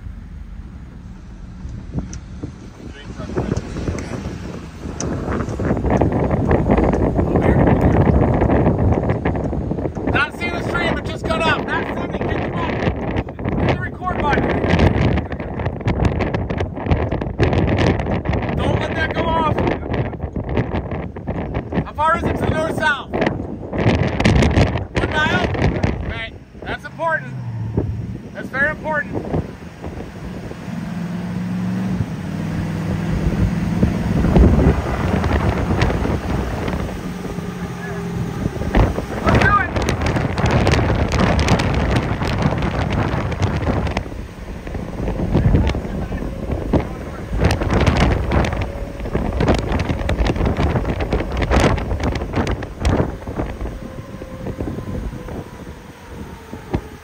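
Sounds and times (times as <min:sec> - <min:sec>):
low motor hum: 0:00.0 - 0:21.9, 0:23.2 - 0:57.0
rumbling: 0:00.0 - 0:57.0
wind buffeting microphone: 0:00.0 - 0:57.0.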